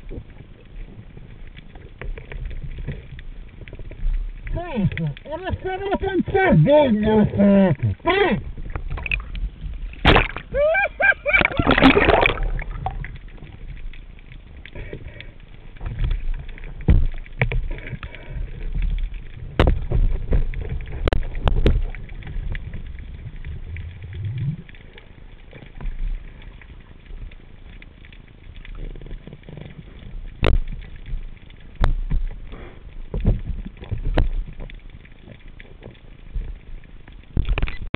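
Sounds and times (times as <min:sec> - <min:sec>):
low underwater rumble: 0:00.0 - 0:37.9.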